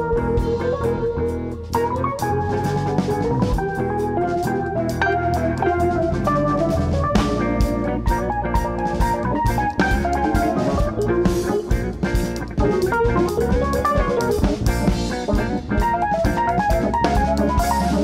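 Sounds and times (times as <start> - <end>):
drum kit: 0.0 - 18.0
electric guitar: 0.0 - 18.0
keyboards: 0.0 - 18.0.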